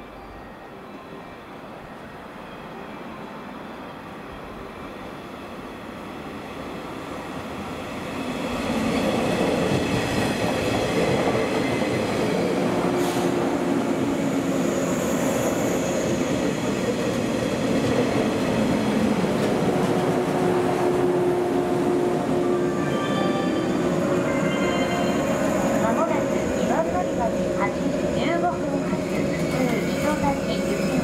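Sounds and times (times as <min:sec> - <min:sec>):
electric train running past: 0:00.0 - 0:31.0.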